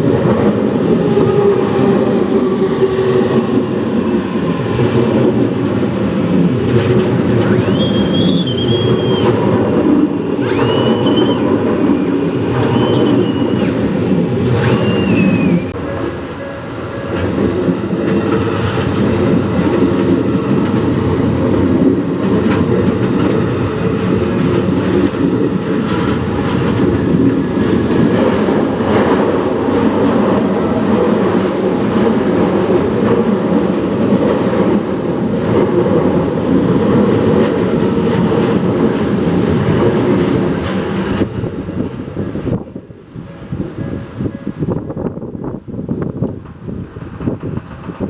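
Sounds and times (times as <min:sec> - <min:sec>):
train wheels clattering over rails: 0:00.0 - 0:15.2, 0:15.8 - 0:41.7, 0:45.6 - 0:48.0.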